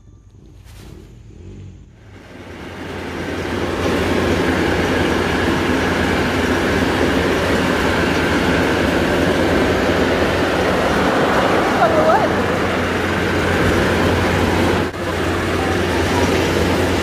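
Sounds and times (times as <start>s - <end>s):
thresher rumbling and rattling: 0.0s - 17.0s.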